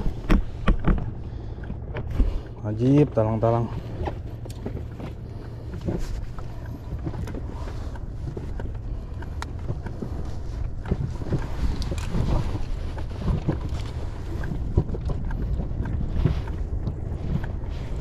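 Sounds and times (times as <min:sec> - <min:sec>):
fishing gear clicks and knocks: 0:00.0 - 0:18.0
wind buffeting microphone: 0:00.0 - 0:18.0.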